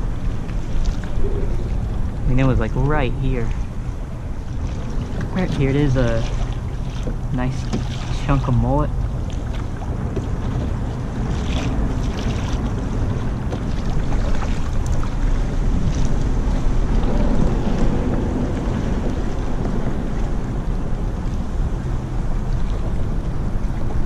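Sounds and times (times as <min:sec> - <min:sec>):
water lapping against kayak: 0:00.0 - 0:24.0
wind buffeting microphone: 0:00.0 - 0:24.0.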